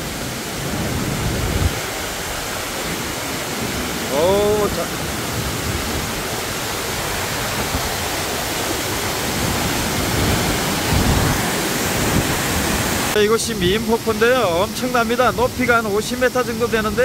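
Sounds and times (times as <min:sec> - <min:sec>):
waterfall crashing into pool: 0:00.0 - 0:17.0.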